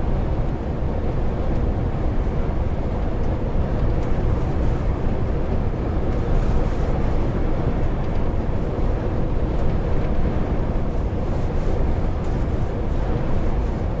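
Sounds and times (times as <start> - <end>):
tyre and road noise: 0.0 - 14.0.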